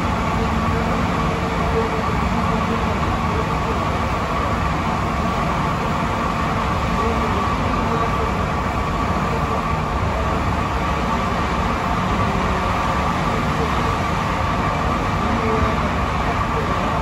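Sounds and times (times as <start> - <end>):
faint steady whine: 0.0 - 17.0
metro car rumble: 0.0 - 17.0.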